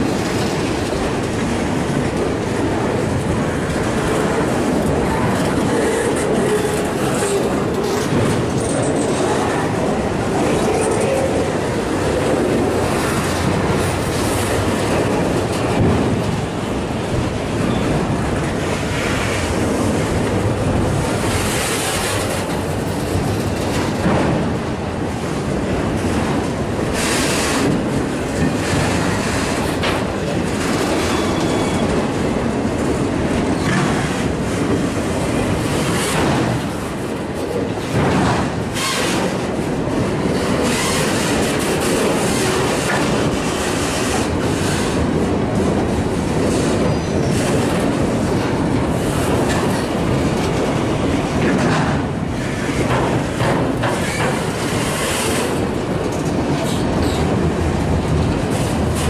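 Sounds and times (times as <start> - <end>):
clickety-clack of wheels: 0.0 - 59.0
train wheels rumbling on rail: 0.0 - 59.0.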